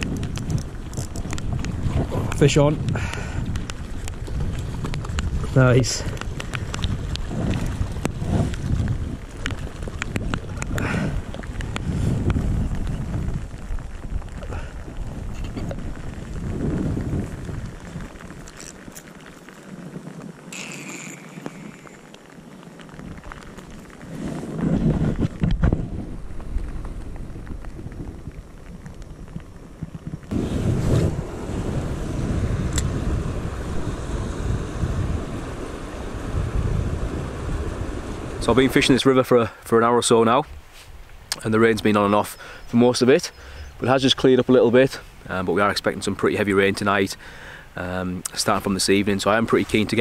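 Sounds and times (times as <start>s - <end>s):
flowing river: 0.0s - 50.0s
wind buffeting microphone: 0.0s - 50.0s.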